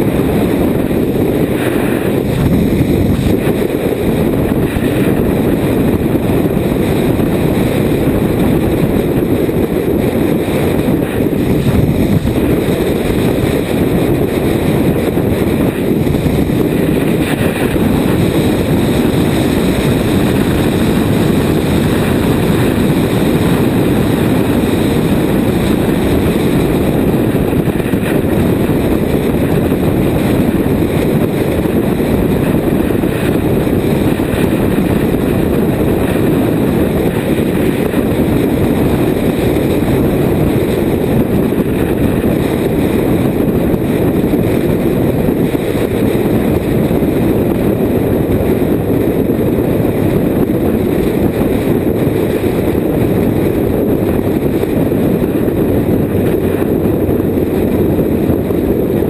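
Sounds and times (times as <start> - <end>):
motorcycle engine: 0.0 - 59.0
wind buffeting microphone: 0.0 - 59.0.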